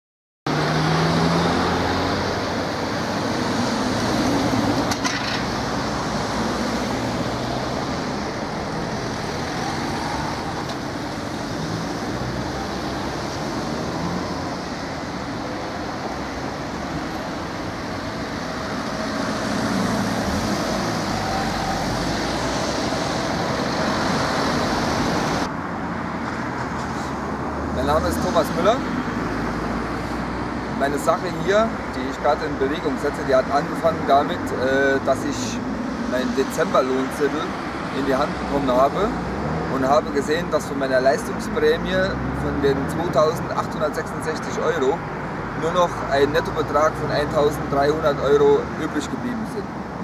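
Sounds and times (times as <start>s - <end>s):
road traffic rushing: 0.5s - 50.0s.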